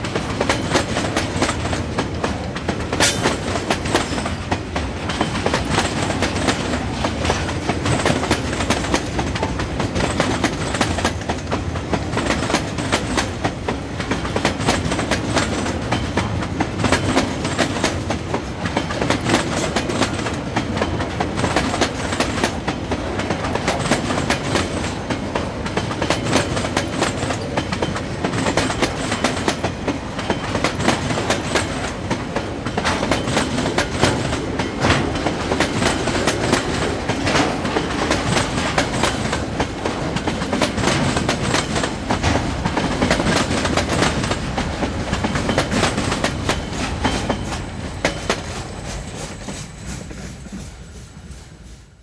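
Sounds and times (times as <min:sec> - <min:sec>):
train low rumble: 0:00.0 - 0:52.0
train wheels clacking on rails: 0:00.0 - 0:52.0.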